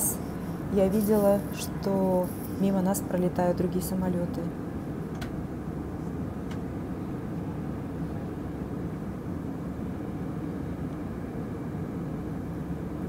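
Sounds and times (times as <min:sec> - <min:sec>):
jet airliner cabin drone: 0:00.0 - 0:13.0.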